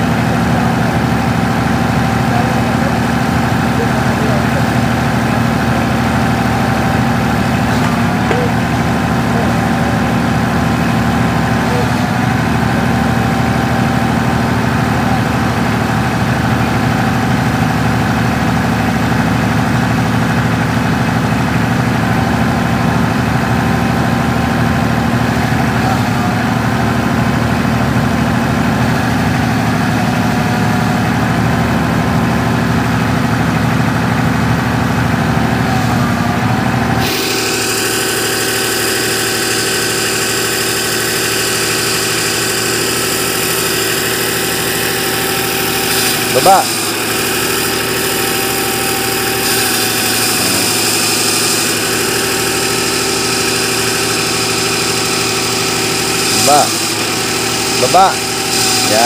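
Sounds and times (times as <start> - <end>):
backhoe engine running: 0.0 - 59.0.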